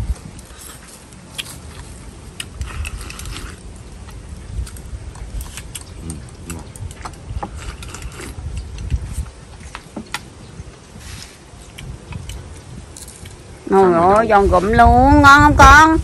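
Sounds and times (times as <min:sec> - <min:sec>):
chewing crispy food: 0:00.1 - 0:13.7.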